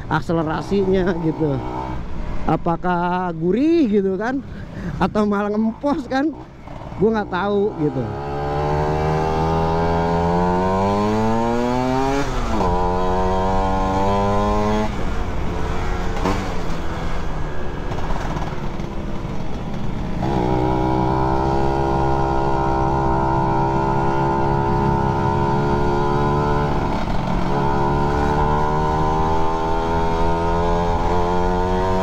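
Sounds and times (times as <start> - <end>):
wind and road rush: 0.0 - 32.0
motorcycle engine revving: 0.4 - 2.1, 5.4 - 32.0.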